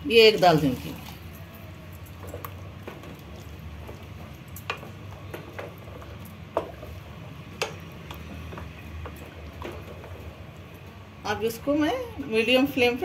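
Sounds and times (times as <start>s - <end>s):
wooden spatula stirring in metal pot: 0.0s - 13.0s.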